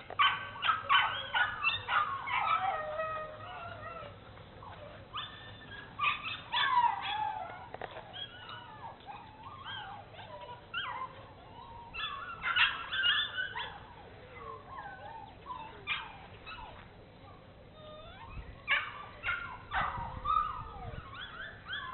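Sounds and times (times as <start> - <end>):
puppy whimpering and yipping: 0.2 - 21.9.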